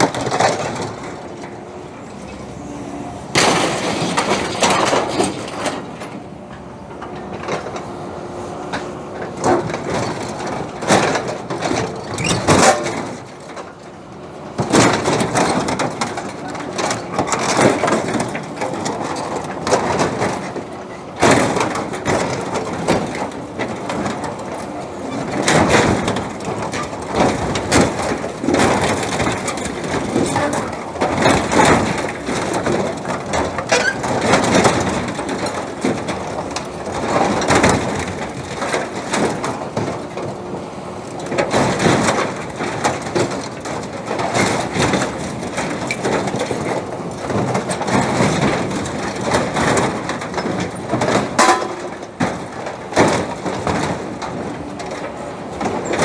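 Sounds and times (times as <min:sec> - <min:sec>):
metal crunching and grinding: 0:00.0 - 0:07.9, 0:14.6 - 0:56.0.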